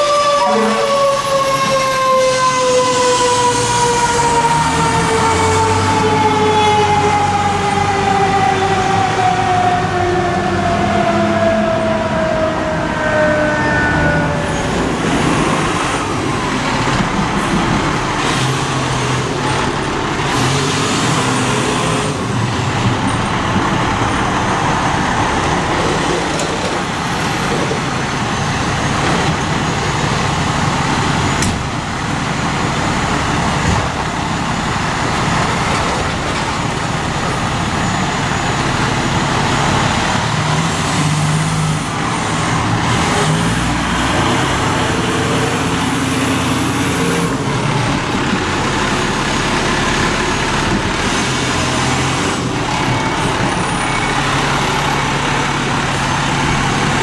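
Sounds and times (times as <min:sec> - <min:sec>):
fire truck engines running: 0:00.0 - 0:57.0
fire truck siren winding down: 0:00.0 - 0:57.0
street traffic: 0:00.0 - 0:57.0.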